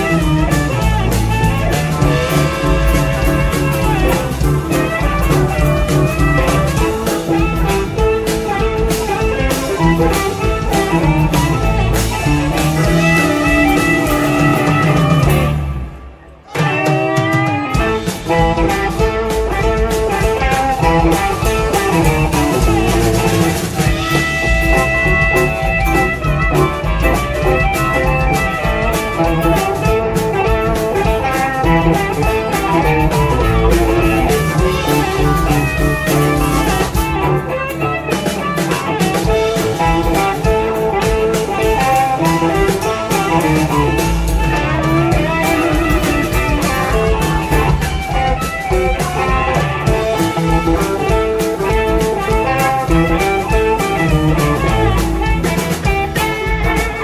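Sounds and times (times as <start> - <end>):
bass: 0.0 - 57.0
blues harmonica: 0.0 - 57.0
drums: 0.0 - 57.0
electric guitar: 0.0 - 57.0.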